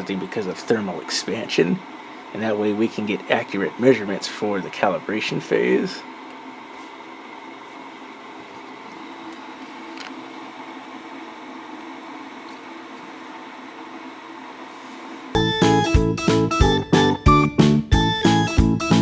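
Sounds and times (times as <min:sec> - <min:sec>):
cooling fans whirring: 0:00.0 - 0:19.0.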